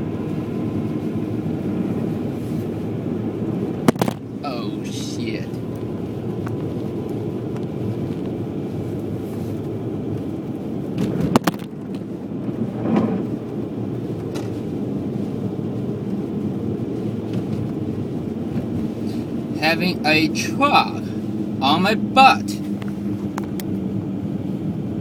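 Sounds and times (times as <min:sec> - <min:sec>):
in-cabin road and tyre noise: 0:00.0 - 0:25.0.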